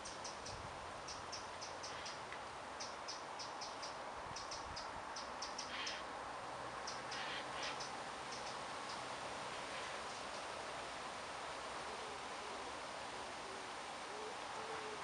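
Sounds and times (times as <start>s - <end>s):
steady woodland hiss: 0.0s - 15.0s.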